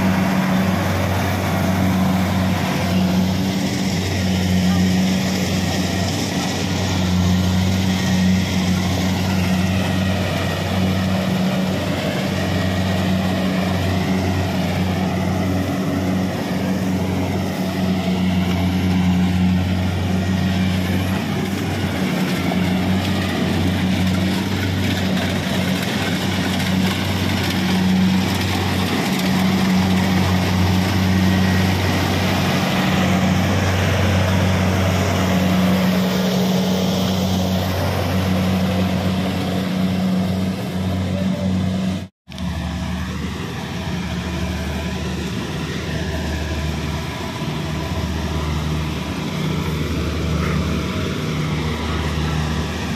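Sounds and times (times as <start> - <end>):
diesel engine running steadily: 0.0 - 52.9
harvesting machinery noise: 0.0 - 52.9.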